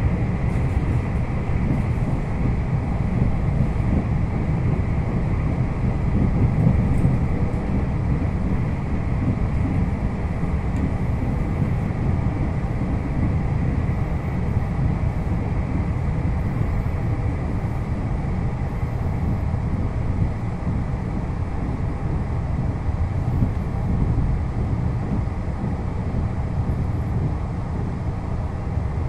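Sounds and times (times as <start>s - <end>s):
electric train running at speed: 0.0s - 29.0s.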